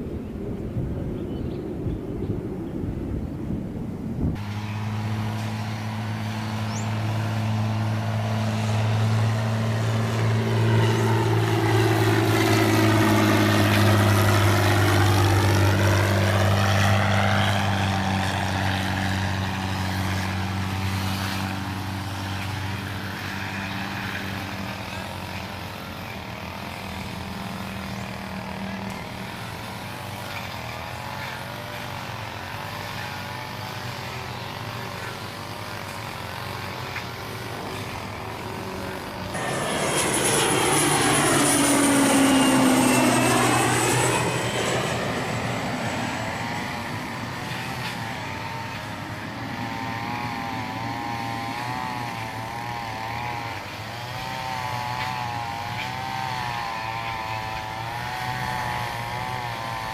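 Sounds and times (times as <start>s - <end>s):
passenger plane passing overhead: 0.0s - 59.9s.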